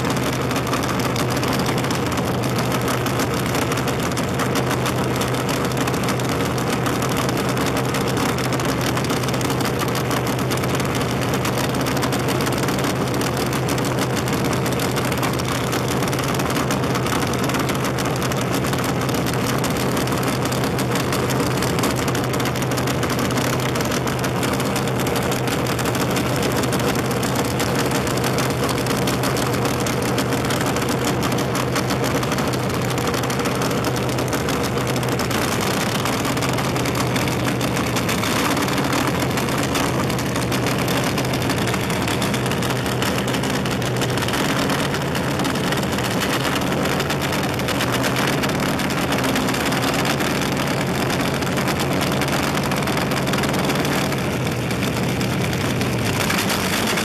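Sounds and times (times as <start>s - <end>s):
dragster engine idling: 0.0s - 57.0s.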